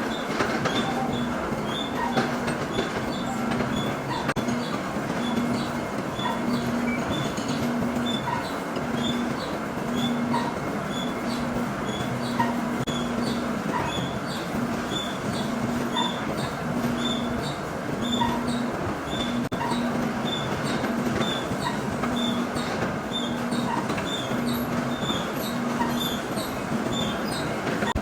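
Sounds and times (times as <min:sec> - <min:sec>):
machinery running: 0:00.0 - 0:28.0.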